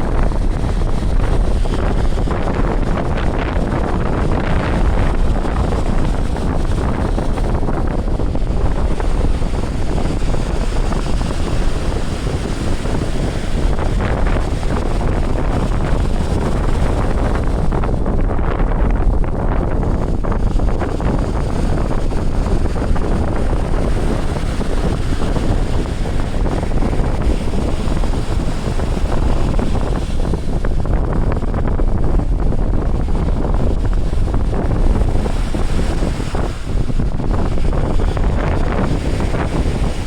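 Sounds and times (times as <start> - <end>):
ocean surf washing: 0.0 - 40.0
wind buffeting the microphone: 0.0 - 40.0.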